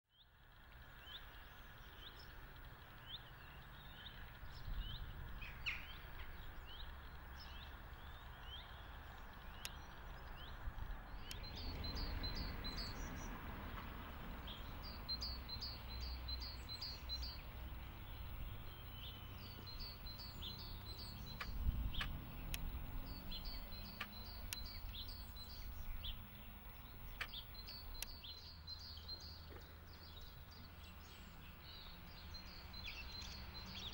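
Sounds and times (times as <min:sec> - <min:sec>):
birds singing: 0:00.1 - 0:33.9
steady low rumble: 0:00.5 - 0:33.9.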